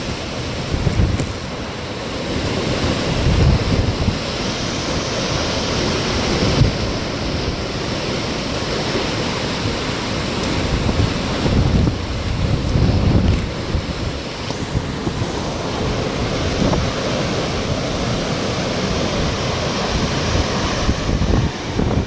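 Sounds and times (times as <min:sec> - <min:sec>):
hurricane-force wind: 0:00.0 - 0:22.0
wind gusts buffeting microphone: 0:00.0 - 0:22.0.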